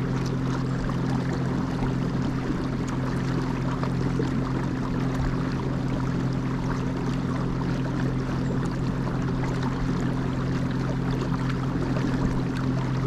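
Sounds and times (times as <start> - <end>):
boat motor humming: 0.0 - 13.0
water rushing along hull: 0.0 - 13.0.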